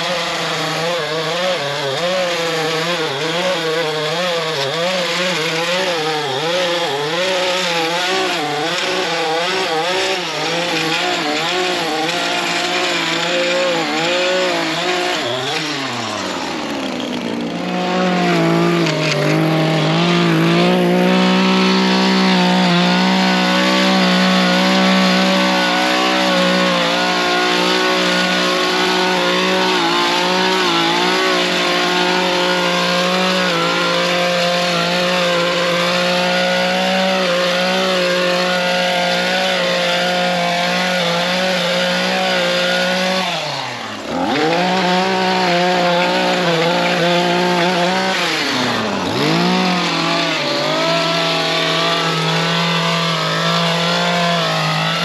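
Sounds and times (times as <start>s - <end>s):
small engine running hard: 0.0s - 55.0s.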